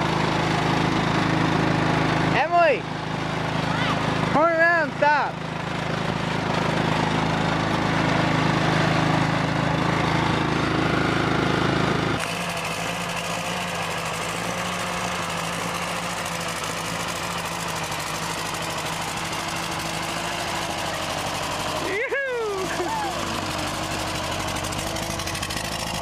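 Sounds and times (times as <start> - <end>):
riding lawn mower engine running: 0.0 - 26.0
small tractor engine running: 0.0 - 26.0.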